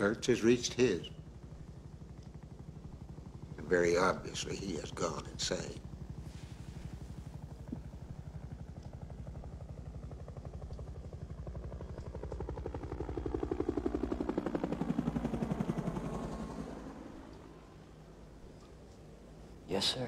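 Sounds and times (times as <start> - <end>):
helicopter rotor beating: 0.0 - 20.0.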